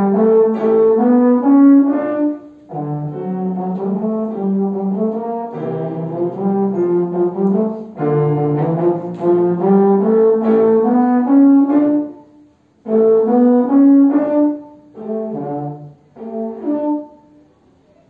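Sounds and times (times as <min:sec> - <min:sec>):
brass horn melody: 0:00.0 - 0:17.5
piano accompaniment: 0:00.0 - 0:17.6.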